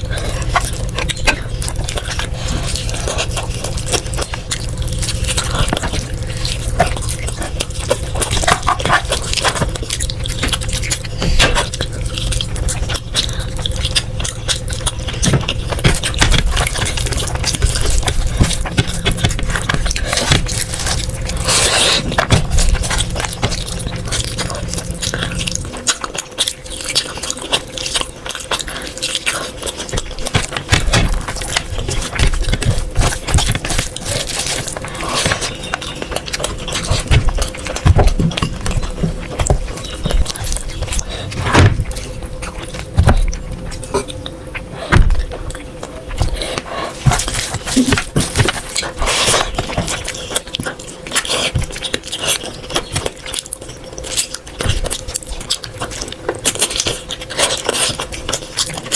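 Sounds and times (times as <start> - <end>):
low rumble: 0.0 - 48.8
chewing: 0.0 - 58.9
steady hum: 0.0 - 58.9.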